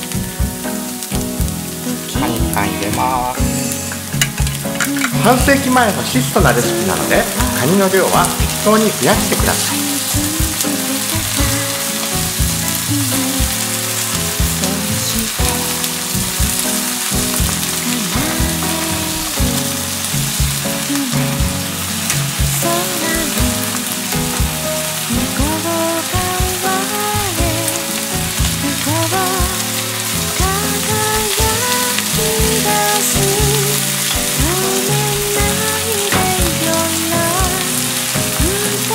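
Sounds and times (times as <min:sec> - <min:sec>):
background music: 0:00.0 - 0:38.9
food sizzling in a frying pan: 0:00.0 - 0:38.9.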